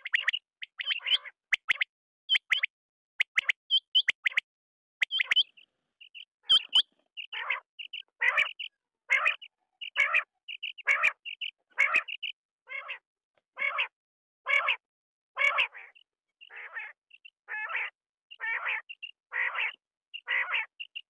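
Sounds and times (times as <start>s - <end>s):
quail calling: 0.0s - 4.4s, 5.0s - 13.0s, 13.6s - 21.0s.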